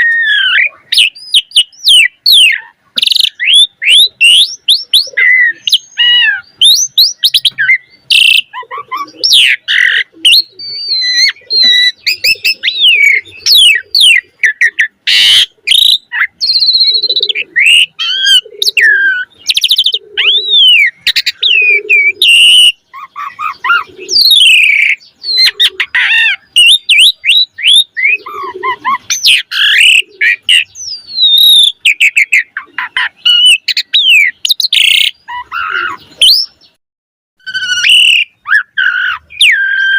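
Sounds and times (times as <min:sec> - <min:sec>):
starling singing: 0:00.0 - 0:36.8, 0:37.4 - 0:39.9.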